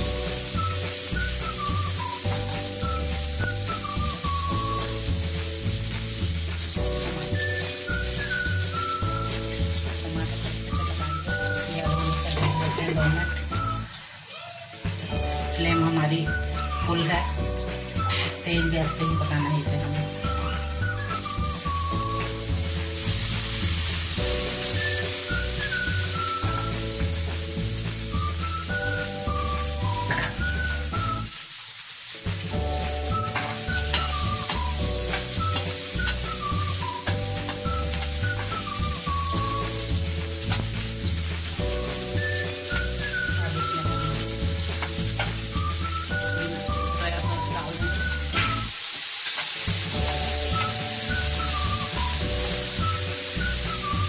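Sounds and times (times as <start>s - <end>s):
background music with bass line: 0.0s - 13.9s, 14.9s - 31.3s, 32.3s - 48.7s, 49.8s - 54.0s
vegetables sizzling in frying pan: 0.0s - 54.0s.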